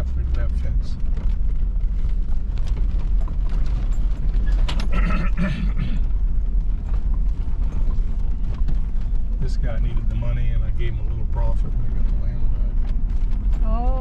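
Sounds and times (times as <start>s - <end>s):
vehicle engine rumbling: 0.0s - 14.0s
rattles and clicks: 0.2s - 14.0s.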